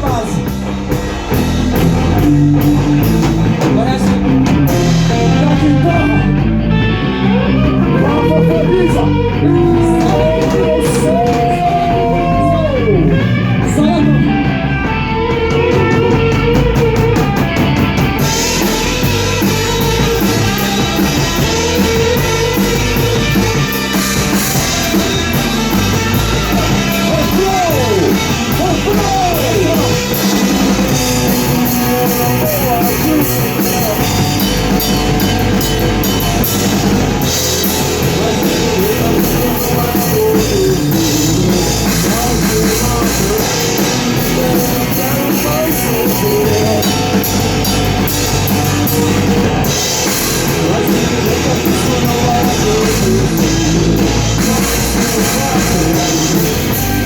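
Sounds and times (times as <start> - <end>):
electric guitar sliding bends: 0.0 - 57.0
rock band playing: 0.0 - 57.0.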